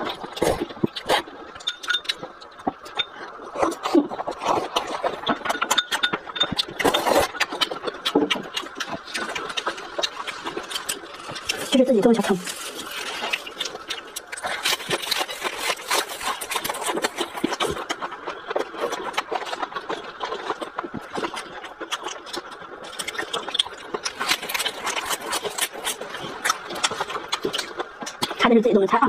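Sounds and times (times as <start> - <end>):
chewing crisp leafy greens: 0.0 - 29.0.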